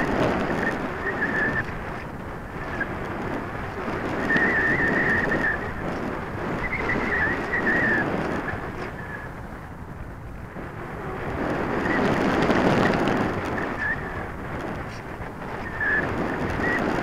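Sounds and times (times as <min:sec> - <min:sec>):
wavering high whine: 0:00.0 - 0:17.0
wind rushing over microphone: 0:00.0 - 0:17.0.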